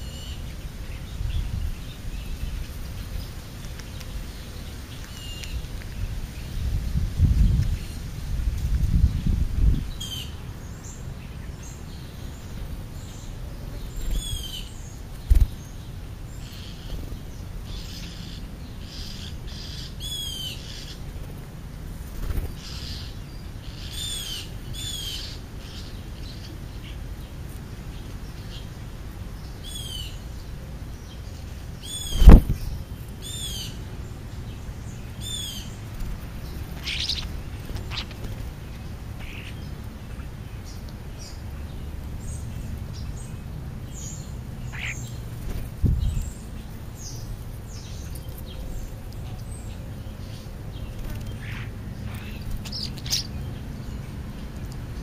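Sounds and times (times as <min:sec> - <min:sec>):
wild birds calling: 0:10.0 - 0:21.2, 0:22.2 - 0:55.0.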